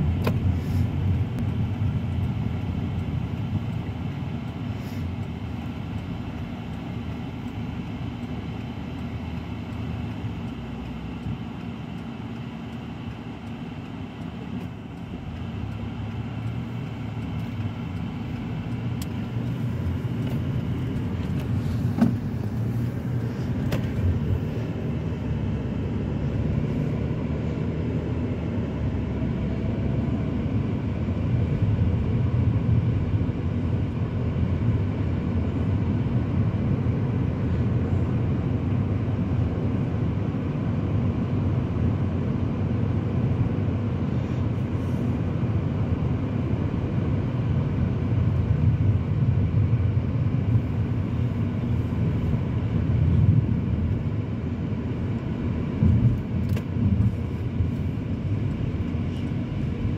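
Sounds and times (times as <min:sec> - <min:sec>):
car road noise rumble: 0:00.0 - 0:59.9.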